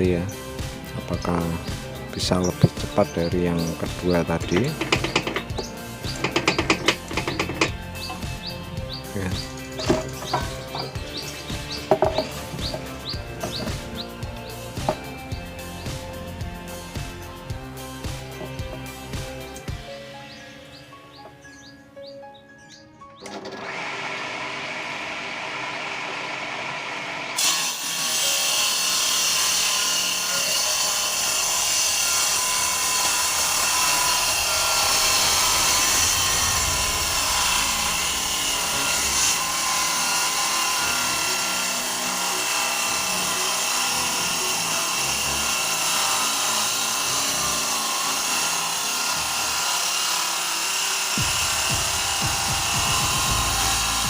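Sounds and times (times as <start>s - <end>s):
table saw cutting wood: 0.0s - 21.7s, 23.2s - 54.0s.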